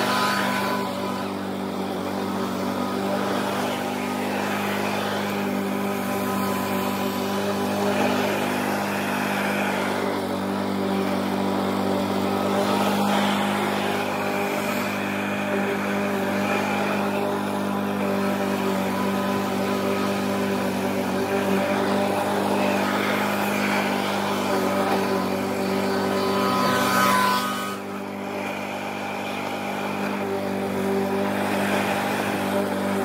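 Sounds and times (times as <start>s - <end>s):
lawn mower engine running: 0.0s - 27.1s, 27.7s - 33.0s.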